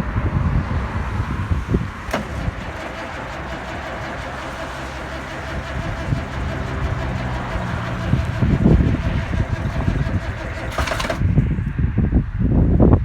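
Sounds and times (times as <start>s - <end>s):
diesel engine droning: 0.0s - 12.2s.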